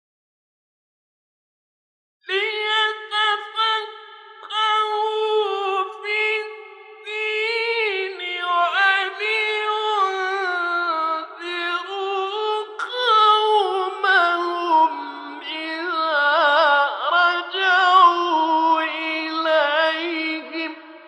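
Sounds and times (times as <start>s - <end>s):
man chanting: 2.3s - 21.0s.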